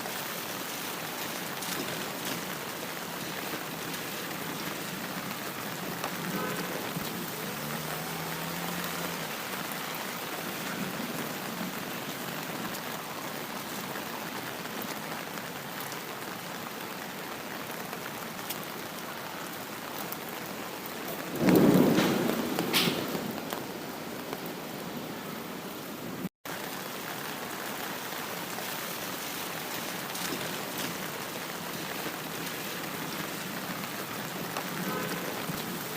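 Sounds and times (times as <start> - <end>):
rain drops hitting: 0.0 - 35.9
steady rain falling: 0.0 - 35.9.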